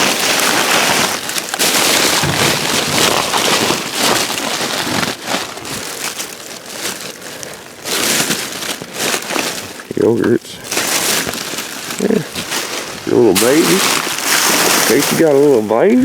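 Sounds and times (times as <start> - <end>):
plastic bags crackling: 0.0 - 16.0.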